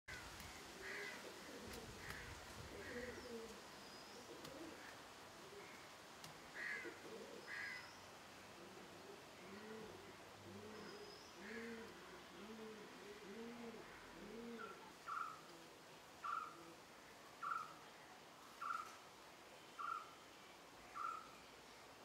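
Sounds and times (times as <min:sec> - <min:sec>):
birds calling faintly: 0:00.1 - 0:22.0.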